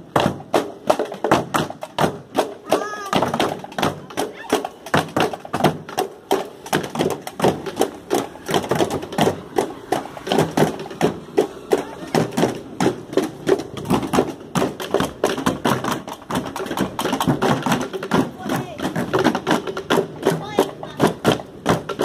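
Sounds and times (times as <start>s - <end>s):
marching band drums: 0.0s - 22.0s.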